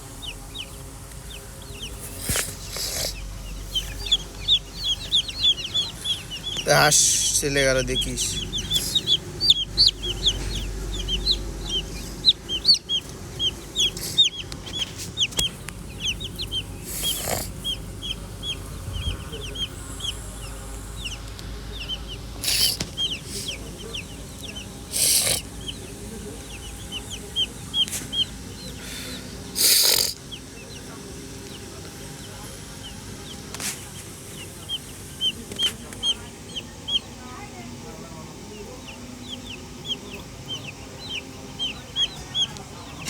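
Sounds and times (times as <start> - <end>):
baby chicks peeping: 0.0 - 43.0.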